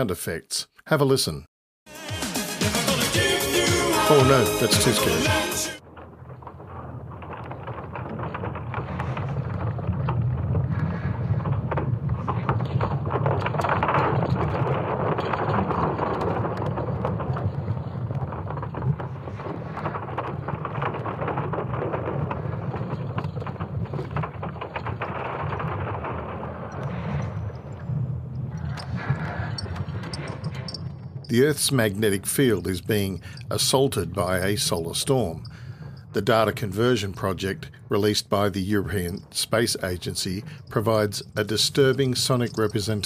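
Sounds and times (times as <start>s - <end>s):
crackles and clicks: 3.6s - 43.0s
deep rumbling: 5.7s - 43.0s.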